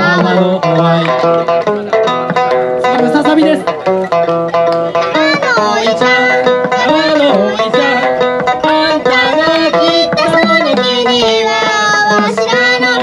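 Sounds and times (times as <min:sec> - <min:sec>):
hand drum percussion: 0:00.0 - 0:13.0
plucked lute folk tune: 0:00.0 - 0:13.0.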